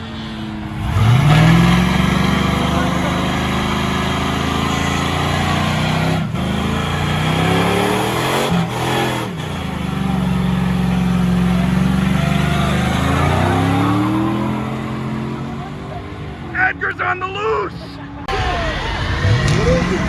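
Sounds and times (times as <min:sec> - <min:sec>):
car engine revving hard: 0:00.0 - 0:16.6, 0:18.3 - 0:20.0.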